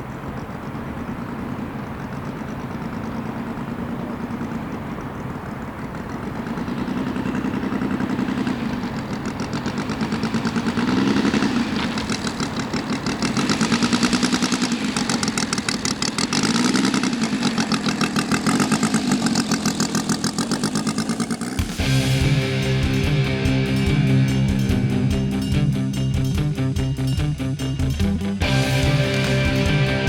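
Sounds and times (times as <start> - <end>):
model aircraft engine pulsing: 0.0 - 30.0.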